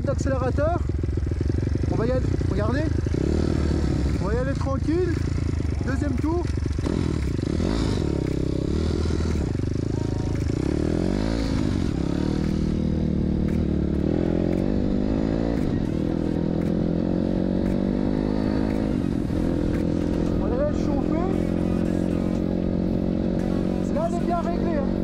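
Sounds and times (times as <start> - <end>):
motorbike engine changing gears: 0.0 - 25.0.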